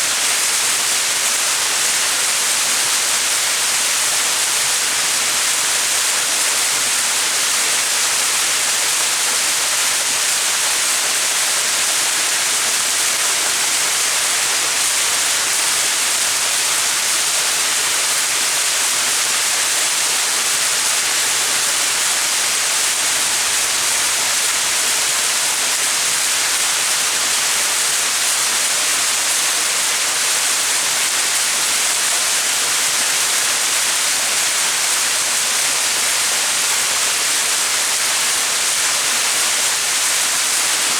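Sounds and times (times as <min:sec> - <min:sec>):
small waterfall splashing: 0:00.0 - 0:40.9.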